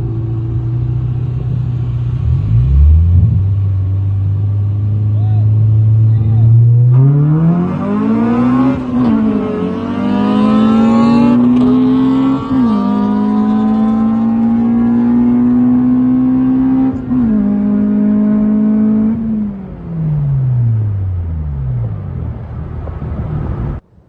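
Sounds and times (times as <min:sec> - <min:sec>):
car engine accelerating: 0:00.0 - 0:23.8.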